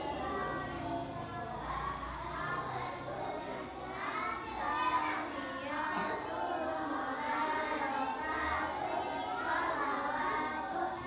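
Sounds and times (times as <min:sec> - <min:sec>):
children chanting prayers: 0:00.0 - 0:11.0.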